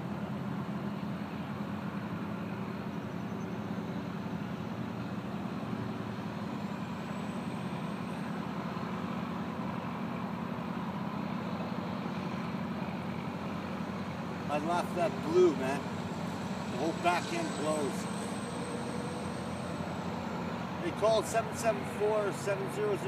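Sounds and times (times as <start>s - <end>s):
heavy engine droning: 0.0s - 23.0s.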